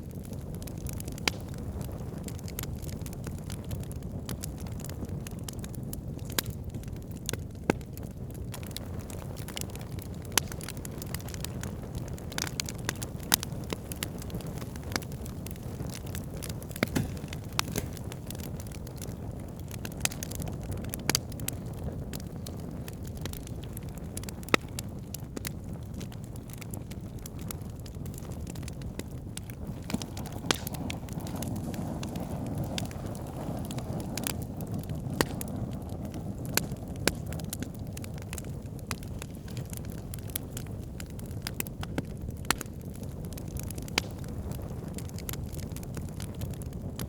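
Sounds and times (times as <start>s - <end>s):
low rumble of flame: 0.0s - 47.0s
wood crackling and popping: 0.0s - 47.0s.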